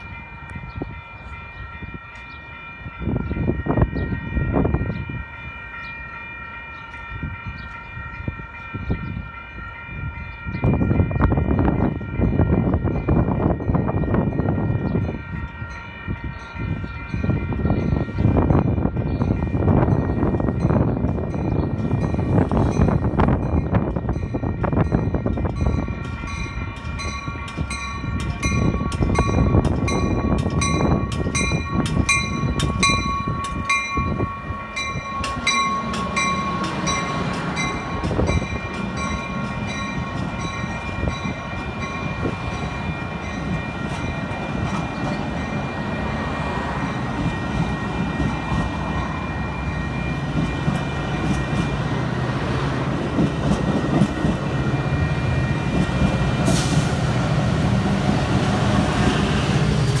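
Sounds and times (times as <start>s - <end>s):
diesel locomotive engine: 0.0s - 60.0s
train cars rumbling past: 0.0s - 60.0s.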